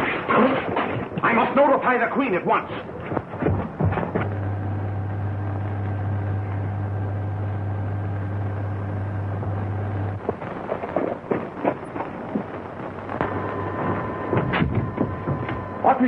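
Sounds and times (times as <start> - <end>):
low electric hum: 0.0 - 16.0.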